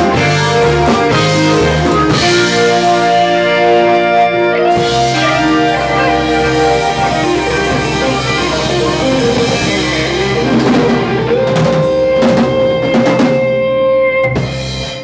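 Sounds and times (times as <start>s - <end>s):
electric guitar held note: 0.0s - 14.5s
live rock band playing: 0.0s - 15.0s.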